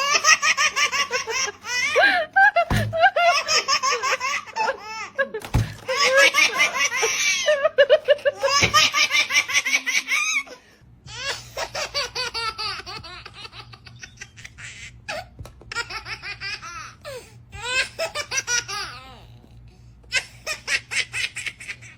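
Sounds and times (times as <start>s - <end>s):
baby laughing: 0.0s - 19.3s, 20.1s - 21.9s
faint steady hum: 0.0s - 21.9s.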